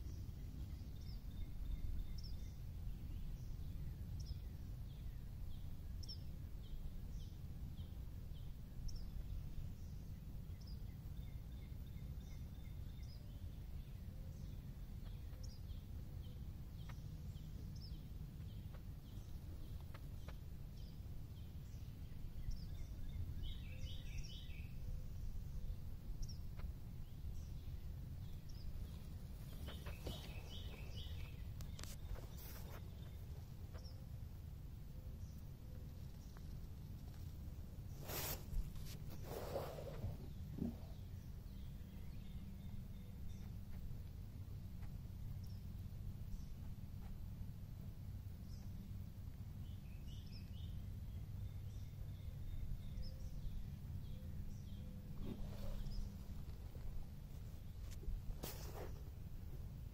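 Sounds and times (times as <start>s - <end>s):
birds chirping: 0.0s - 59.2s
low steady rumble: 0.0s - 59.9s.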